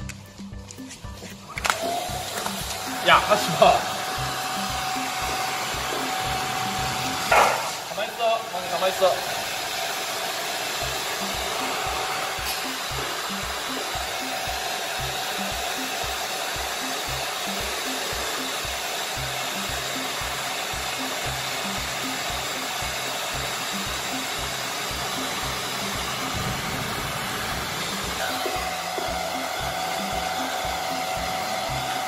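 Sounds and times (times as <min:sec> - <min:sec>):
hair dryer blowing: 0:01.5 - 0:32.0.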